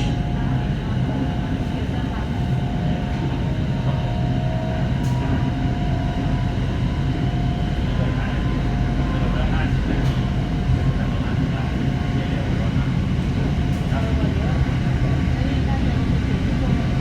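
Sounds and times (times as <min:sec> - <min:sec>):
train rumble from inside: 0:00.0 - 0:17.0.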